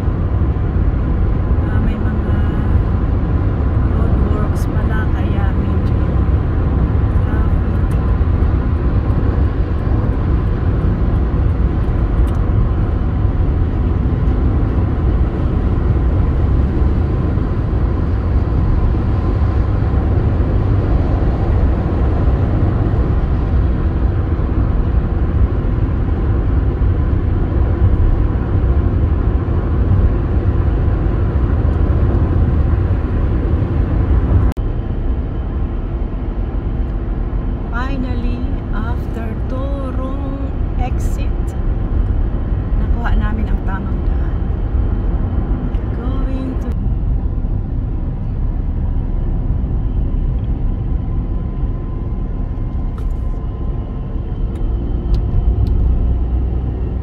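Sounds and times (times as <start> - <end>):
car cabin road and engine rumble: 0.0 - 57.0.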